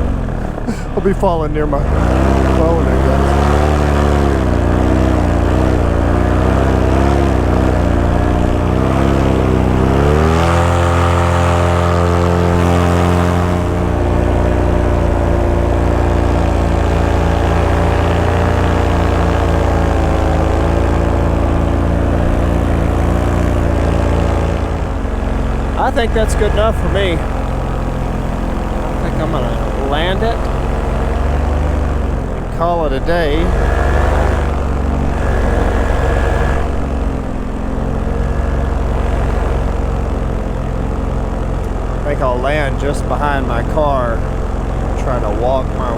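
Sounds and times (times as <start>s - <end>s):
paramotor engine and propeller: 0.0s - 45.9s.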